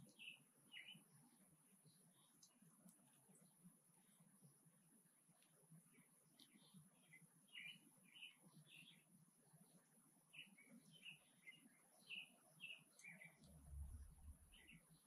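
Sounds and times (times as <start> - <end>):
small birds chirping faintly: 0.0 - 15.0.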